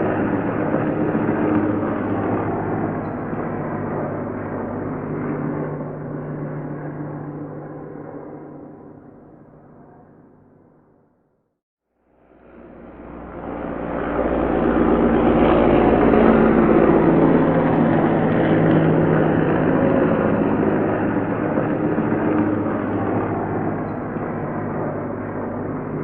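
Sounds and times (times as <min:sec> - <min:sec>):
helicopter droning: 0:00.0 - 0:11.2, 0:12.0 - 0:26.0.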